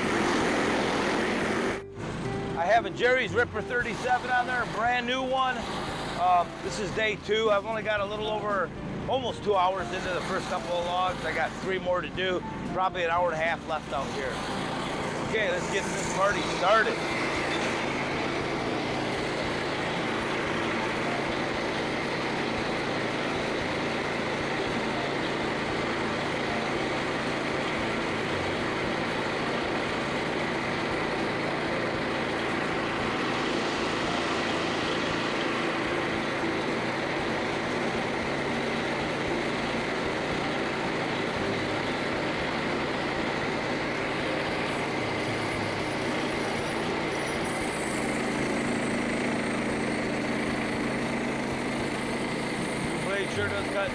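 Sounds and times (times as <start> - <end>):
band sawmill sawing log: 0.0 - 53.9.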